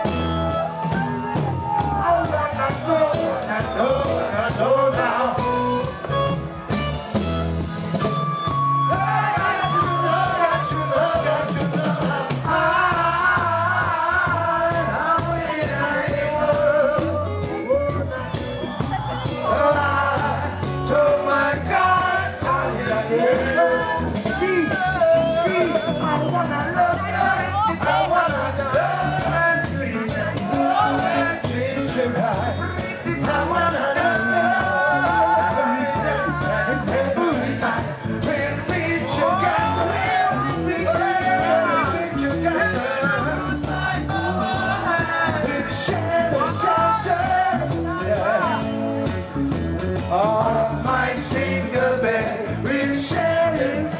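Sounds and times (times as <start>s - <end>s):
bass line: 0.0s - 53.9s
live reggae band playing: 0.0s - 53.9s.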